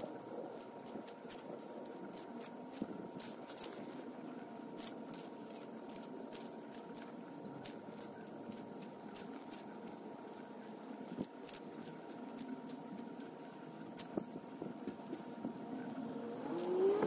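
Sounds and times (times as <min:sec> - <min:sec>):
faint steady hiss: 0:00.0 - 0:17.0
tortoise crunching lettuce: 0:00.0 - 0:17.0.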